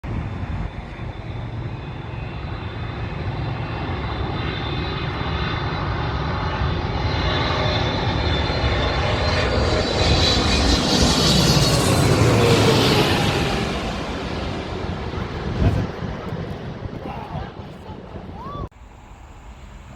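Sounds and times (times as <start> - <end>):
jet engines rumbling and whining: 0.0 - 19.9.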